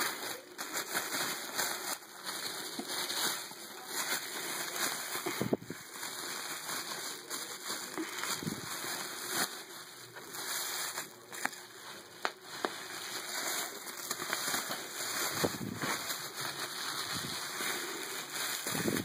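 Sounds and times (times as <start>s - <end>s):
paper and cardboard rustling: 0.0s - 19.0s.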